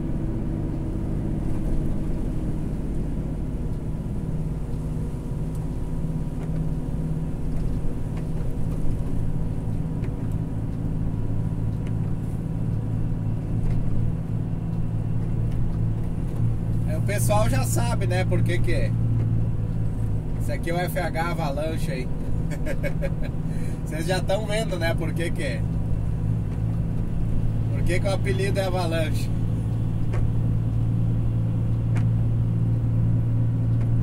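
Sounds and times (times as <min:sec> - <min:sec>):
truck diesel engine running: 0:00.0 - 0:34.0.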